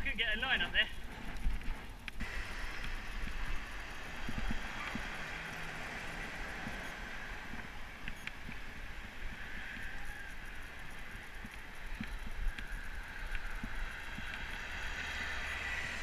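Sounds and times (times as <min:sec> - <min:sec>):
bike clicks and rattles: 0:00.0 - 0:16.0
tyre and wind noise: 0:00.0 - 0:16.0.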